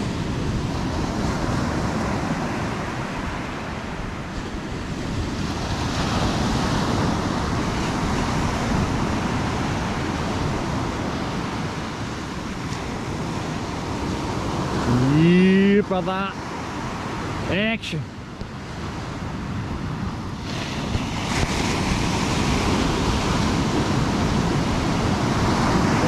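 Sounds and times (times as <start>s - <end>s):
surf washing onto beach: 0.0s - 26.0s
wind buffeting microphone: 0.0s - 26.0s.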